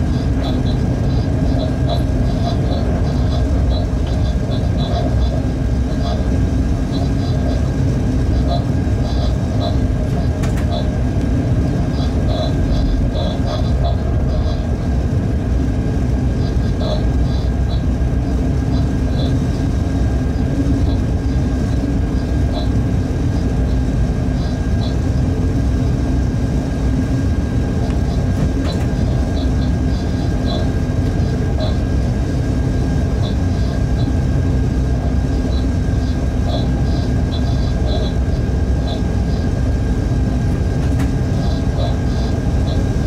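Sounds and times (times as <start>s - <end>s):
constant hum: 0.0s - 43.0s
train wheels rumbling on rails: 0.0s - 43.0s.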